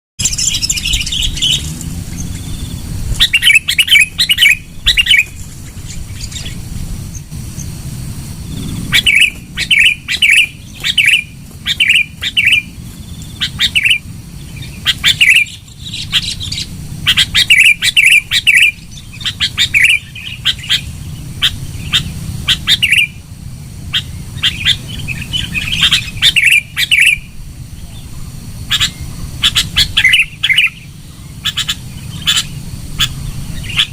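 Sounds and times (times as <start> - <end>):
bulbul chirping: 0.2 - 33.9
low background rumble: 0.2 - 33.9.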